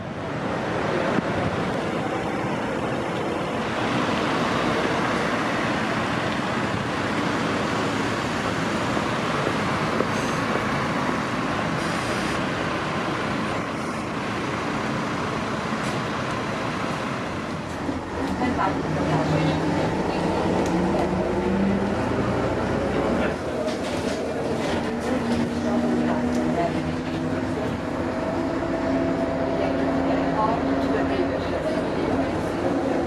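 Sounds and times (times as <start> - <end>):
city street traffic: 0.0 - 33.0
diesel bus passing: 0.0 - 33.0.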